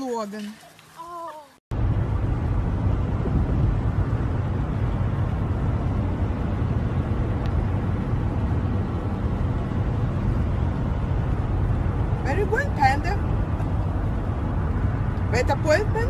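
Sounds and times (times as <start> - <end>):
road noise: 0.0 - 16.0
car engine: 1.7 - 16.0.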